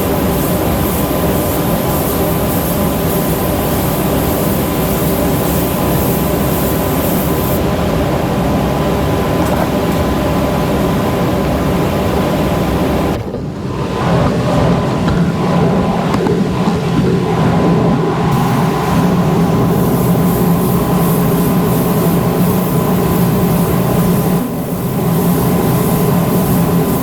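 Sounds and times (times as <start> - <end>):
machine running with hum: 0.0 - 27.0.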